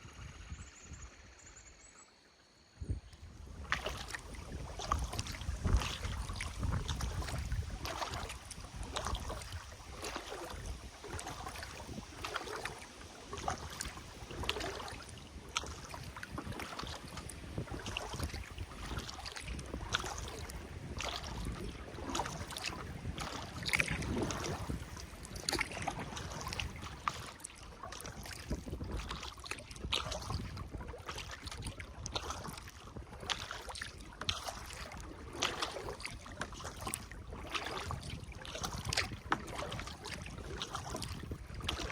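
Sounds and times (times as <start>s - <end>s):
wind rumble on microphone: 0.0s - 1.7s, 2.7s - 41.9s
kayak paddle in water: 0.0s - 41.9s.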